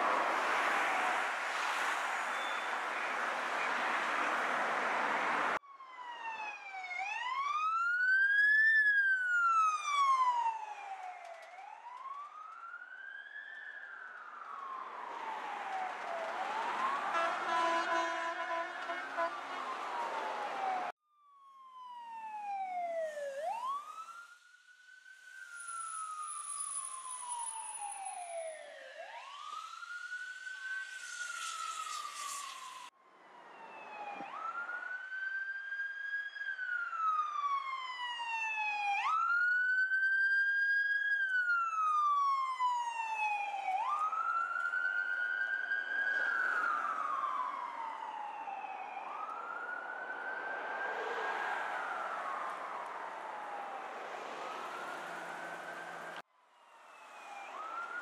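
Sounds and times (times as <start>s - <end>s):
sirens wailing: 0.0s - 58.0s.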